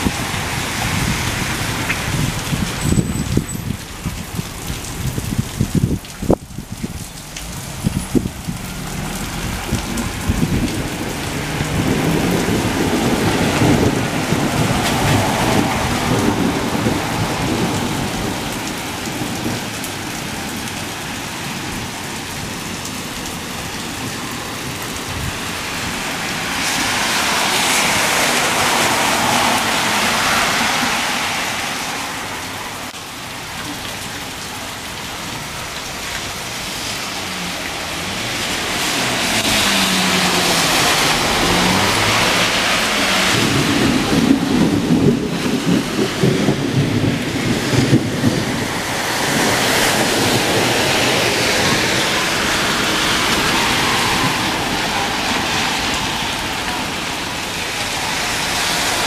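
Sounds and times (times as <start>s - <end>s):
car tyres hissing on wet street: 0.0s - 59.0s
heavy rain on pavement: 0.0s - 59.0s.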